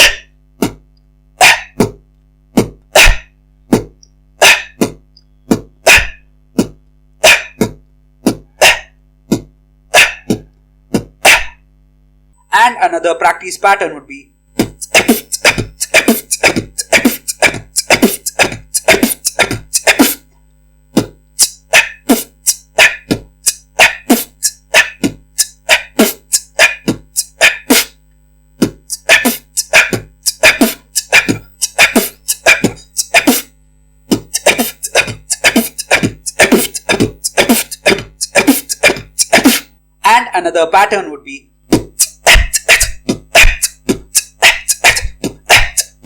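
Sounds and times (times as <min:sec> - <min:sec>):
person beatboxing: 0:00.0 - 0:11.6, 0:14.5 - 0:20.3, 0:20.9 - 0:28.0, 0:28.6 - 0:41.1, 0:41.7 - 0:46.0.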